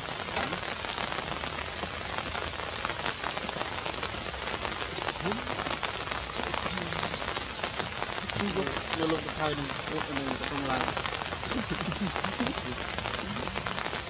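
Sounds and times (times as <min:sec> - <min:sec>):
dense crackling patter: 0:00.0 - 0:14.0
steady hiss: 0:00.0 - 0:14.0.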